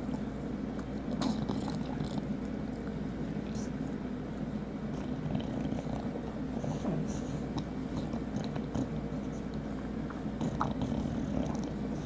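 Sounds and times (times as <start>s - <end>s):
puppy chewing on string: 0.0s - 12.0s.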